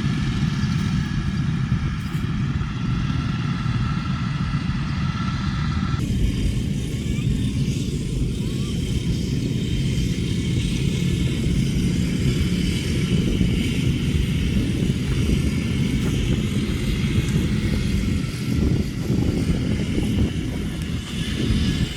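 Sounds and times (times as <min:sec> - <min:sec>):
motorcycle engines running: 0:00.0 - 0:21.9.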